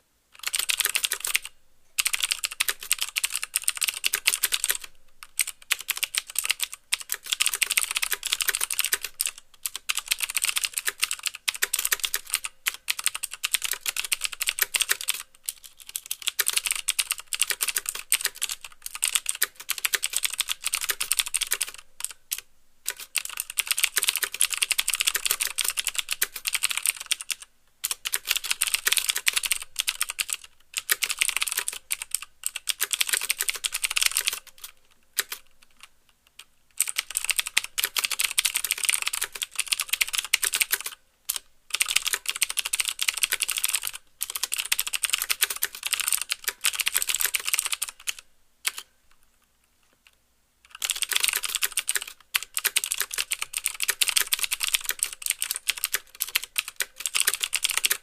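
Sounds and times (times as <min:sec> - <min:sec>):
fast typing on mechanical keyboard: 0:00.4 - 0:35.9, 0:36.8 - 0:48.9, 0:50.7 - 0:58.0.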